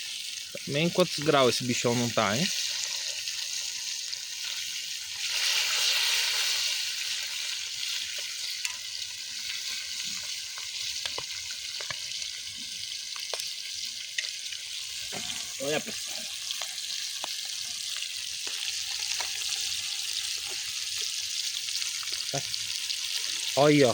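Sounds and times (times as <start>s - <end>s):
fish sizzling in hot oil: 0.0s - 23.9s
oil crackles and pops: 0.0s - 23.9s.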